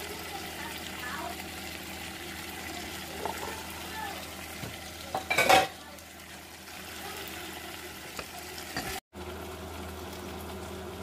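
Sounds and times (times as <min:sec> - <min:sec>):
chicken sizzling in a saucepan: 0:00.0 - 0:11.0.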